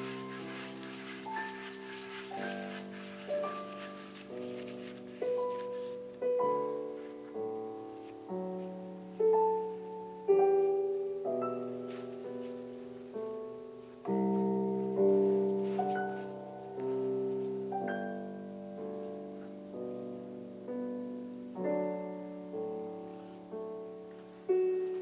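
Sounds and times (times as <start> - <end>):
soft piano music: 0.0 - 25.0.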